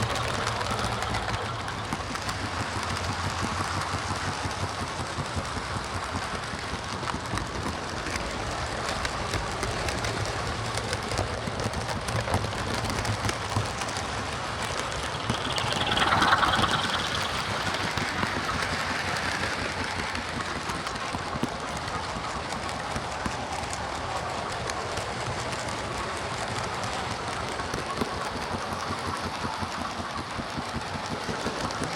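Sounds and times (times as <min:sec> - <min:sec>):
diesel engine sound from speaker: 0:00.0 - 0:31.9
model train wheels and motor rumble: 0:00.0 - 0:31.9.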